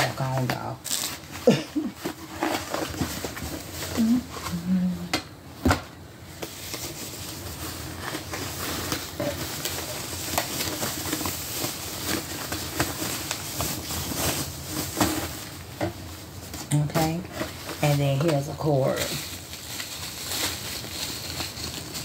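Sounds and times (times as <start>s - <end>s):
packaging rustling and crinkling: 0.0s - 4.7s, 5.6s - 22.0s
electric fan: 0.0s - 22.0s.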